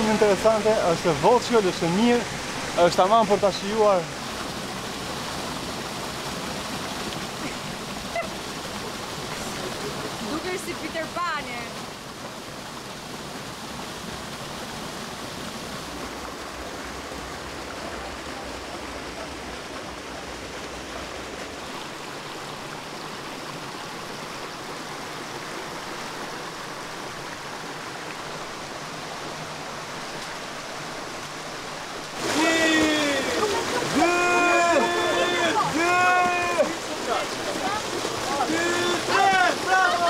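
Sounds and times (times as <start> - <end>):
stream flowing over rocks: 0.0 - 40.0.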